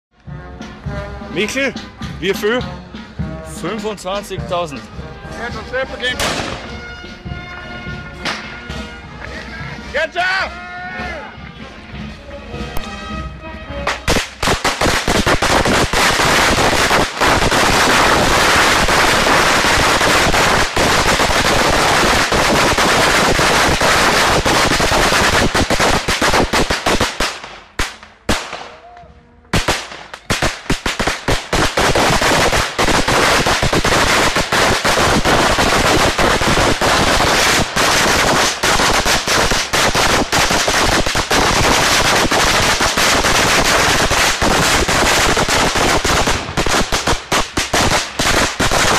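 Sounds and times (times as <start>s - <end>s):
firecrackers banging: 0.6s - 10.1s, 13.8s - 48.9s.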